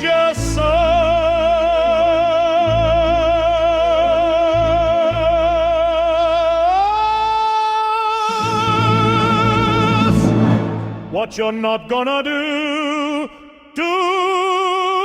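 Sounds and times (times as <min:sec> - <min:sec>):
operatic singing with vibrato: 0:00.0 - 0:15.0.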